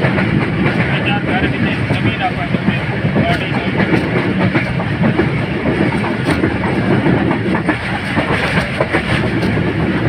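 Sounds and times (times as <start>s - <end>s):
rail joint clicks: 0.0s - 10.0s
train wheels rumbling on rails: 0.0s - 10.0s.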